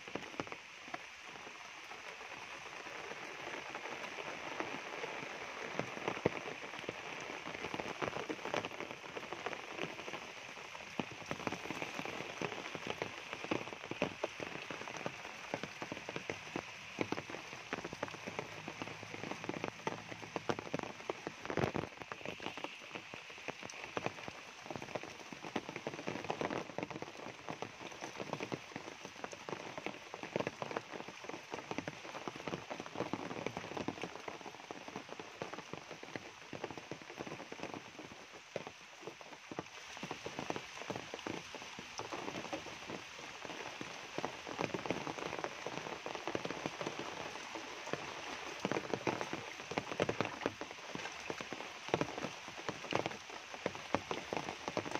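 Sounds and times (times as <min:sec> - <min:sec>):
close raindrop ticks: 0:00.0 - 0:54.9
rain on foliage: 0:00.0 - 0:54.9.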